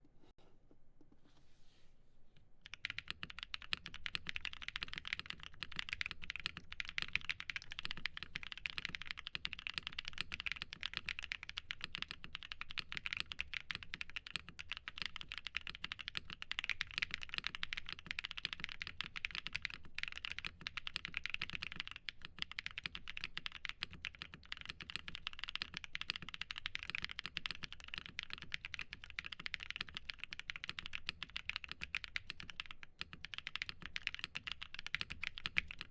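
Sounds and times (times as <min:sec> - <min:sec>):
mechanical keyboard typing: 0:02.6 - 0:35.9.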